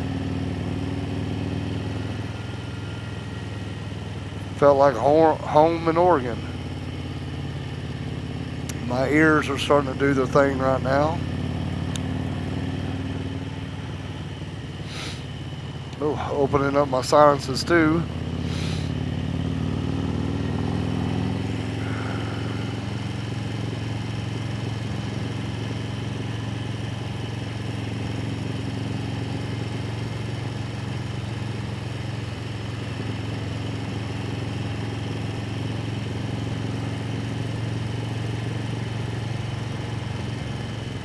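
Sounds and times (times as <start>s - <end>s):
motorcycle engine cruising: 0.0s - 41.0s
wind and road noise: 0.0s - 41.0s.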